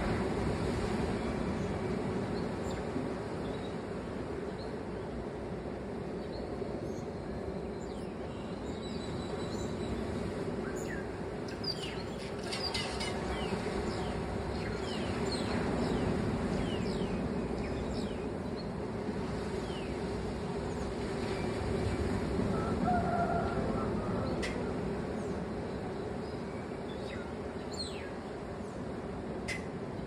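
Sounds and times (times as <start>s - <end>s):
surf washing: 0.0s - 6.8s, 7.4s - 30.0s.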